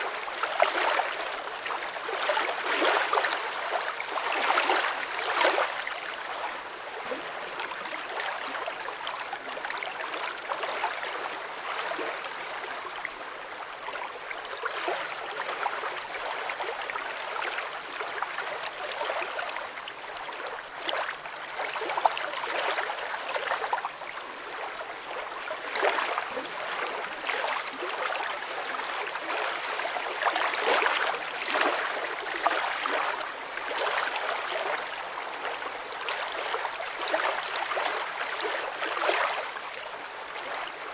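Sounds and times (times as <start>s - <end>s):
small water splashes: 0.0s - 13.3s, 14.1s - 40.9s.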